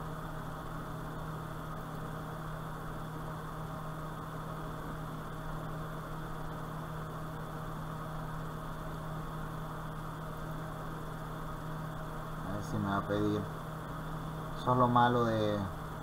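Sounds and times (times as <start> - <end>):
constant hiss: 0.0 - 16.0
low electrical hum: 0.0 - 16.0.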